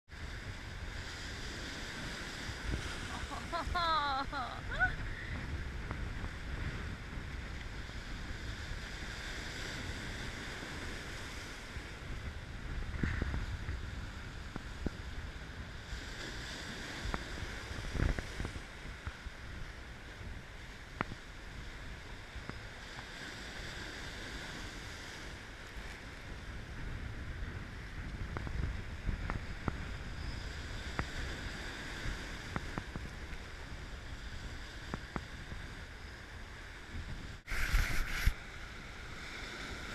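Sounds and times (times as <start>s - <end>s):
wind rumbling on microphone: 0.1s - 39.9s.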